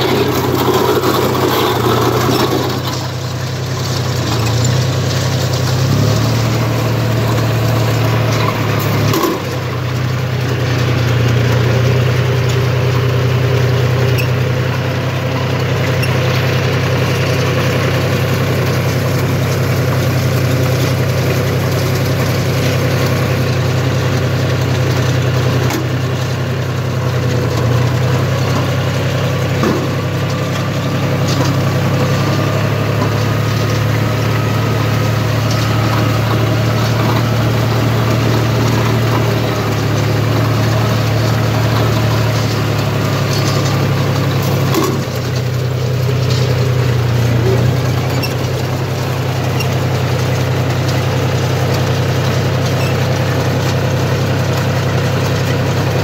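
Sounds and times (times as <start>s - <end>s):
baler machinery noise: 0.0s - 56.0s
tractor engine running: 0.0s - 56.0s.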